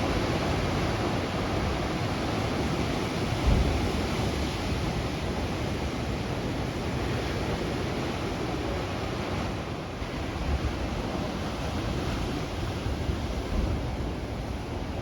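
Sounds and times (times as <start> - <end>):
ocean surf on shore: 0.0 - 15.0
wind rumble on microphone: 0.0 - 15.0.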